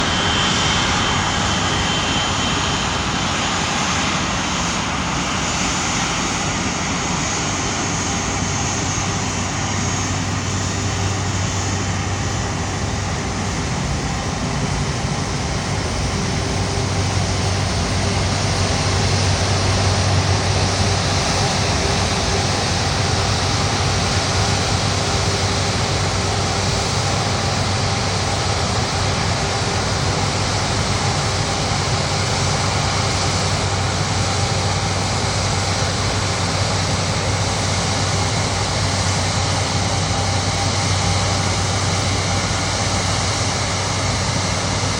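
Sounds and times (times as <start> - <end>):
jet engine whine: 0.0 - 44.9.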